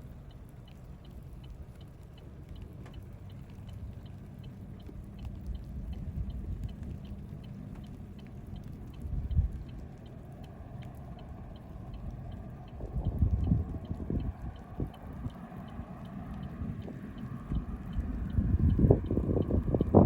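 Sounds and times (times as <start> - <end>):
hazard flasher relay ticking: 0.0 - 20.0
vehicle cab rumble: 0.0 - 20.0.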